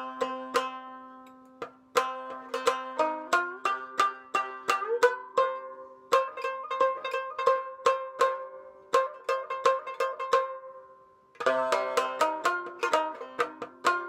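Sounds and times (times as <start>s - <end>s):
shamisen plucked notes: 0.0s - 14.0s.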